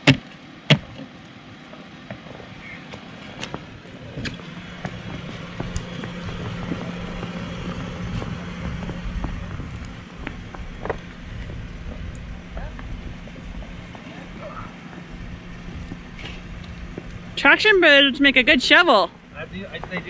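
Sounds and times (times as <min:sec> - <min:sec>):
van engine idling: 0:00.0 - 0:20.0.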